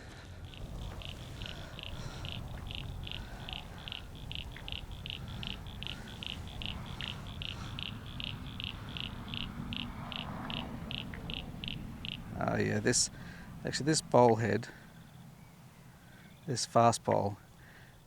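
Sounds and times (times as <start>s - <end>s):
frog calling: 0.0s - 15.4s
low continuous rumble: 0.0s - 18.0s.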